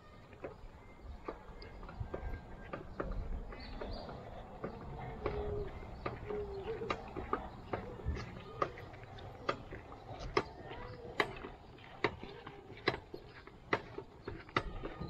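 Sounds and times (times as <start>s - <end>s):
flip-flop footsteps on asphalt: 0.1s - 15.0s.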